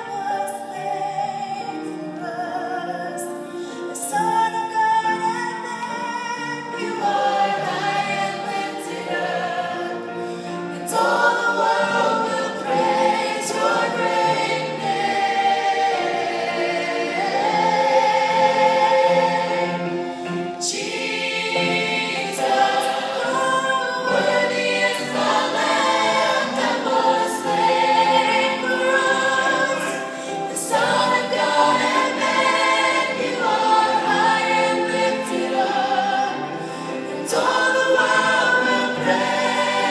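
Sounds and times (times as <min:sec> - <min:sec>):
choir singing gospel song: 0:00.0 - 0:39.9.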